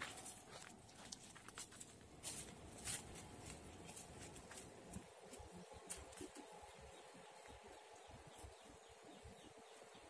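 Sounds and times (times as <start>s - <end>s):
faint woodland ambience: 0.0s - 10.0s.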